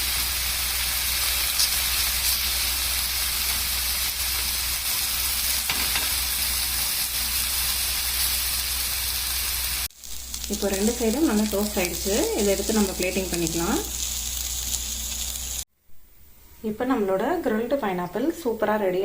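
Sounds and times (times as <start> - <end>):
pineapple sizzling in butter: 0.0 - 15.7.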